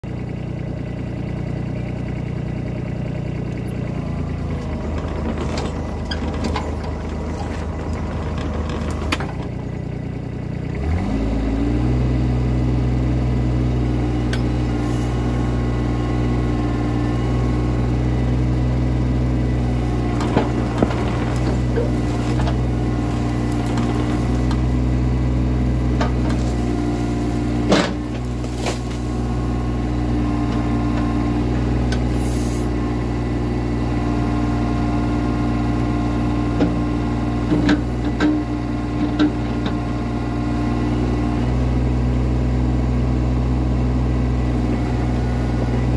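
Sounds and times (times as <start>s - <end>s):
diesel engine revving: 2.5s - 45.9s.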